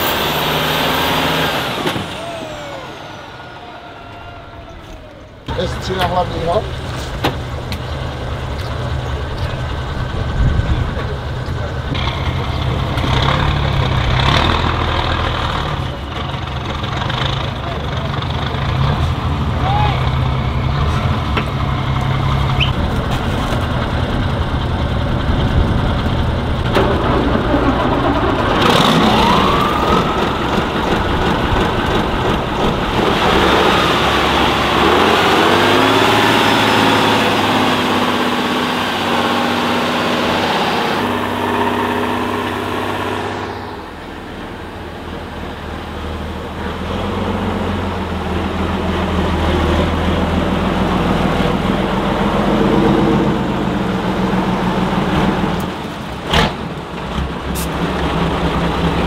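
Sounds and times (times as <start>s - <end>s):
truck diesel engines revving: 0.0s - 59.0s.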